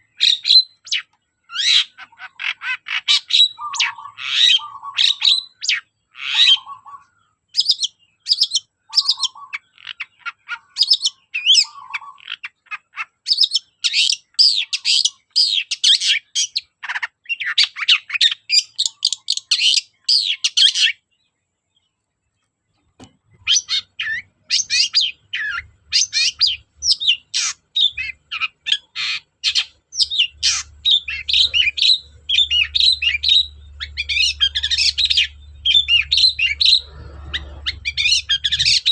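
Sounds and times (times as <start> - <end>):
bird singing chattering song: 0.0 - 38.9.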